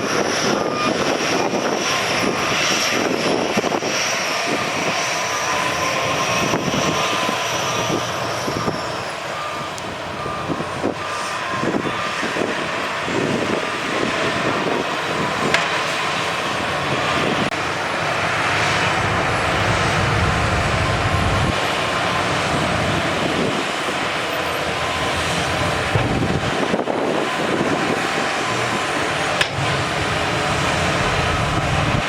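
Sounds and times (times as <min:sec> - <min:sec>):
heavy diesel machinery running: 0:00.0 - 0:32.0.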